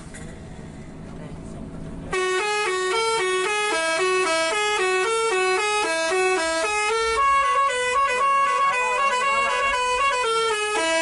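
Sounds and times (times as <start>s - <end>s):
musical bus horn playing a tune: 2.1s - 11.0s.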